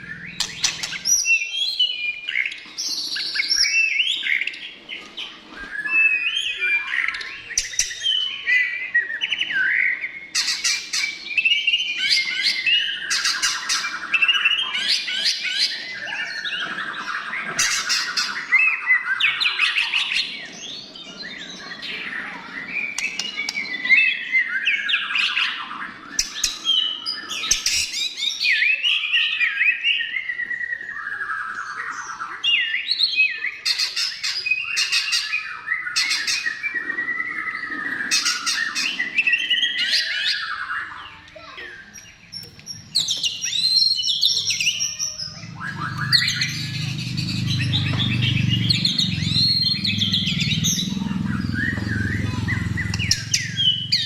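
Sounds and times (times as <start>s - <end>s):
bird singing whistles and trills: 0.0s - 4.7s, 5.5s - 54.0s.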